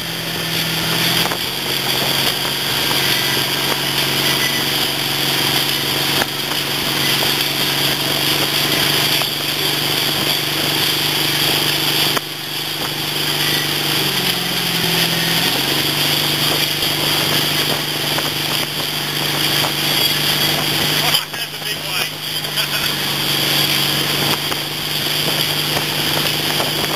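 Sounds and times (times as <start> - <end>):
boat engine running: 0.0 - 26.9
wind and water rushing: 0.0 - 26.9.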